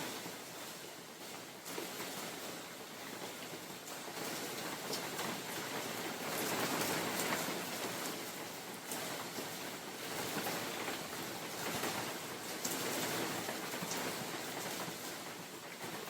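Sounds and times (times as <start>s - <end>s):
rain falling in forest: 0.0s - 16.0s.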